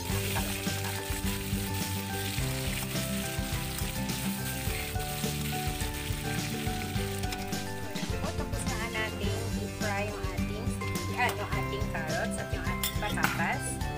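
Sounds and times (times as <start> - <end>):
utensil scraping wok: 0.0 - 11.6
vegetables sizzling in oil: 0.0 - 12.3
background music: 0.0 - 13.9.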